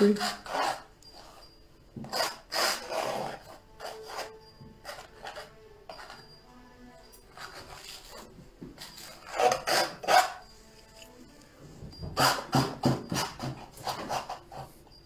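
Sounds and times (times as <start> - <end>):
painting knife scraping canvas: 0.0 - 1.4, 2.0 - 6.3, 7.2 - 11.6, 12.2 - 14.9.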